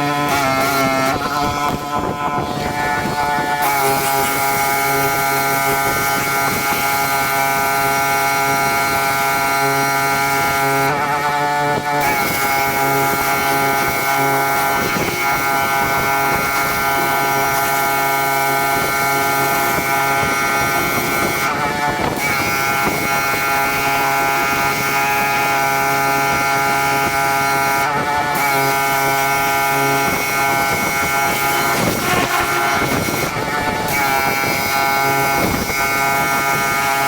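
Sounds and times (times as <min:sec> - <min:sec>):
pressure washer engine running: 0:00.0 - 0:37.0.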